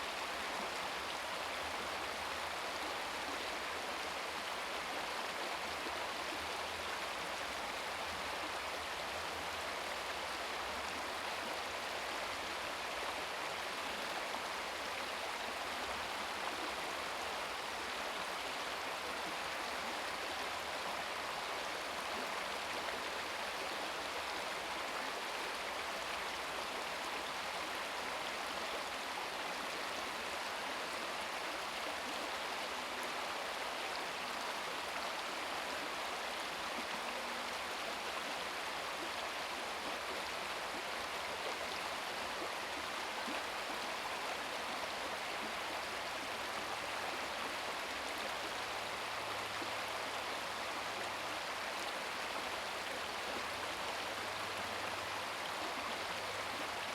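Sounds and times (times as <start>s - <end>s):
brook babbling over rocks: 0.0s - 56.9s.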